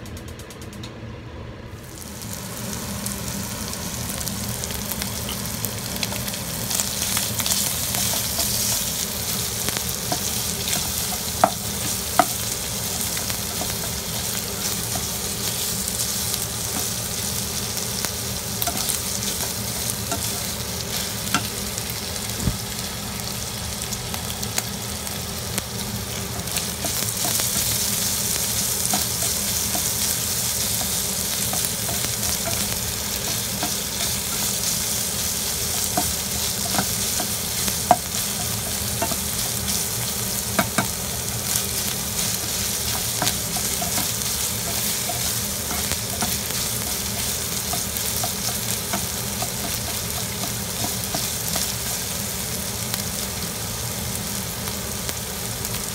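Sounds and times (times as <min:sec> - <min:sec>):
meat sizzling in a pan: 0:01.8 - 0:55.9.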